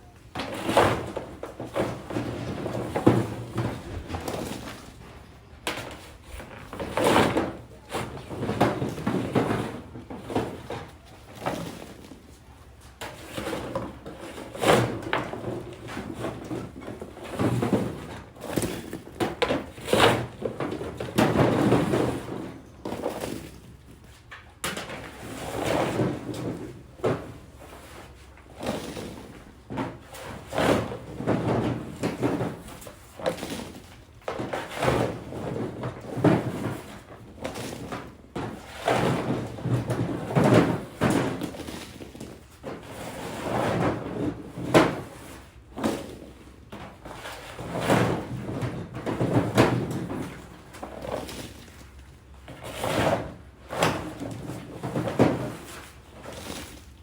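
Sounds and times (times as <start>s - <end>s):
objects knocking and clattering: 0.3s - 57.0s.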